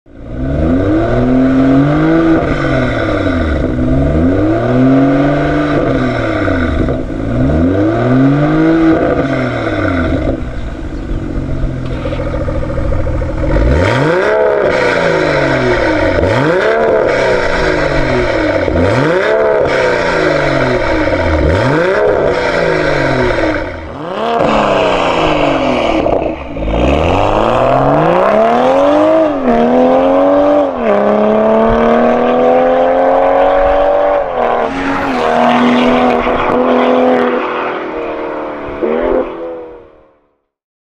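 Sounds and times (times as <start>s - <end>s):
car engine revving: 0.1s - 39.9s
car accelerating through gears: 0.4s - 10.4s, 13.4s - 39.8s.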